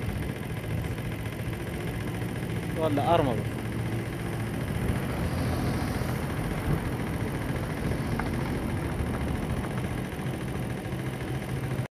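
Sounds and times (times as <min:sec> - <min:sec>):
vehicle engine running: 0:00.0 - 0:11.9.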